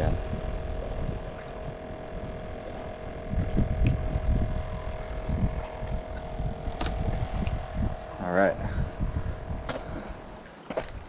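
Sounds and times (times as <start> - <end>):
faint steady hum: 0.0 - 11.0
wind buffeting microphone: 0.0 - 11.0.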